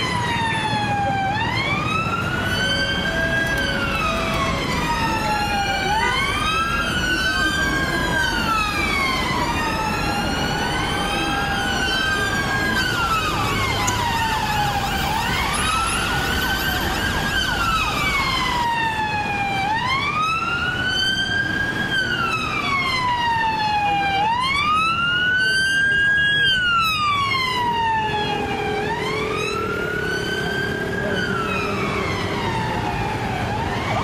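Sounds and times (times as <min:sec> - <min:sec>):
police sirens wailing: 0:00.0 - 0:34.0
street traffic hum: 0:00.0 - 0:34.0.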